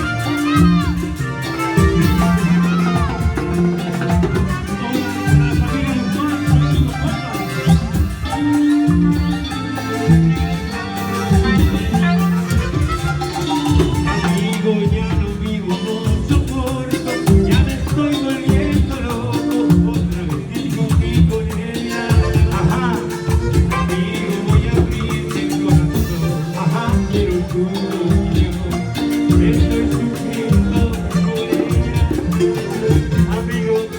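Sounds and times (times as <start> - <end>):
band playing latin dance music: 0.0 - 33.9
pulsing bass line: 0.0 - 33.9.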